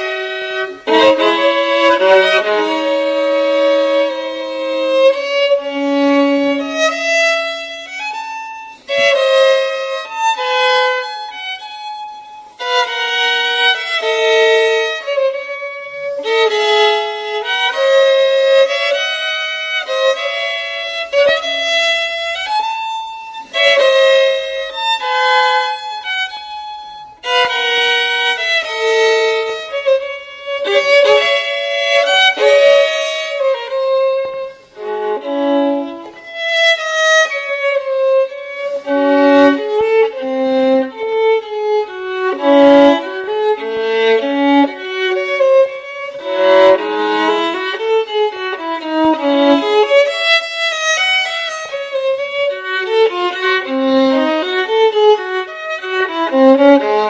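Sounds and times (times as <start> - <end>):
violin melody: 0.0 - 57.0.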